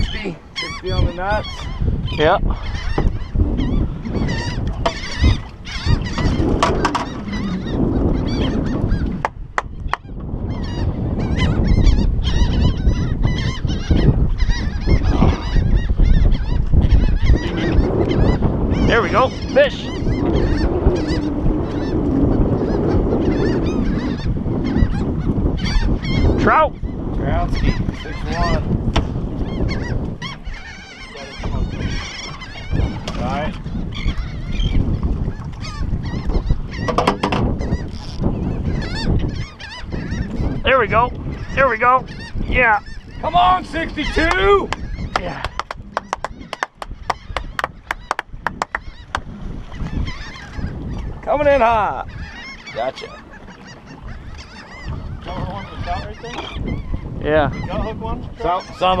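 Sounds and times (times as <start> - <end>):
seabirds squawking: 0.0 - 59.0
wind rumbling on microphone: 0.0 - 59.0.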